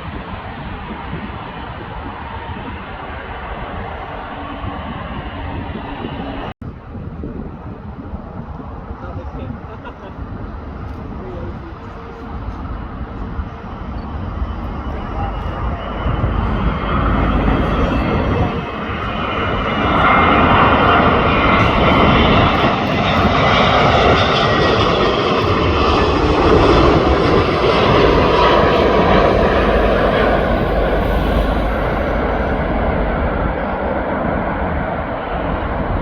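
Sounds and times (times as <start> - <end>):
jet airliner roar with whine: 0.0 - 36.0.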